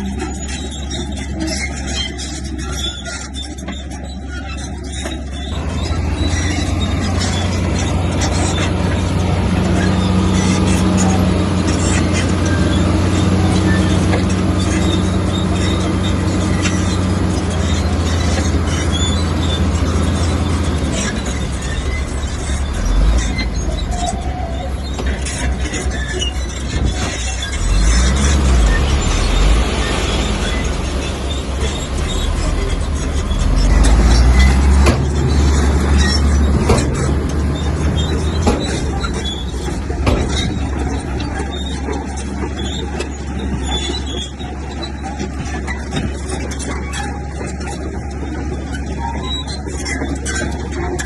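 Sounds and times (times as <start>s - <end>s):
bulldozer diesel engine running: 0.0s - 51.0s
steel tracks clattering and squeaking: 0.0s - 51.0s.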